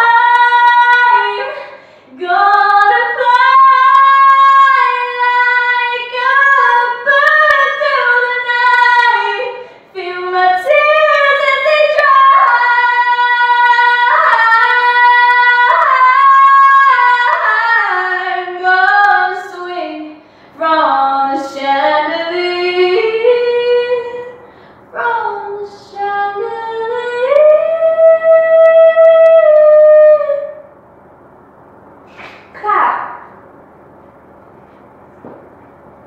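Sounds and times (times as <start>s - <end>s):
woman singing unaccompanied: 0.0s - 24.4s, 25.0s - 30.6s.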